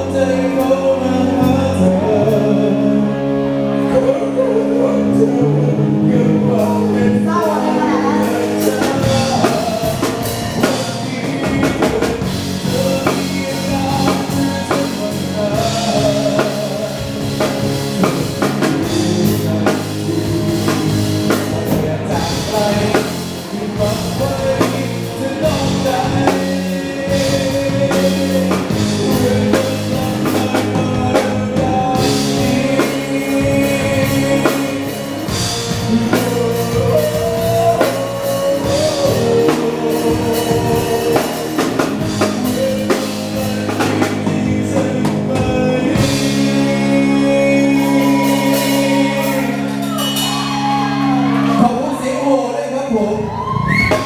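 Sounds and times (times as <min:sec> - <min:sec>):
band playing upbeat song: 0:00.0 - 0:54.0
person singing: 0:00.0 - 0:54.0.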